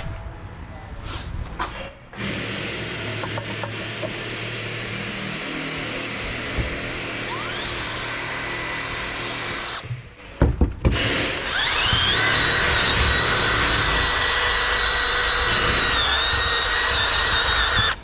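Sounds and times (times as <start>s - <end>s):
power tool grinding metal: 2.2s - 9.8s, 10.9s - 18.0s.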